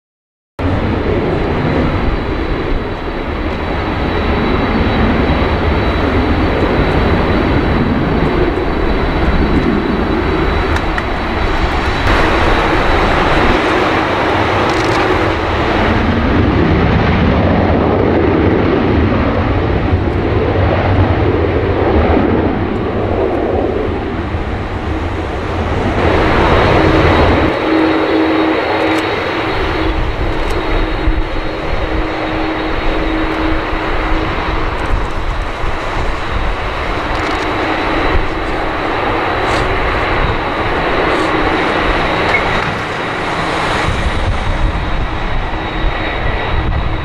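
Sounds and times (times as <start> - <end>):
jet engines rumbling with whine: 0.6 - 47.0.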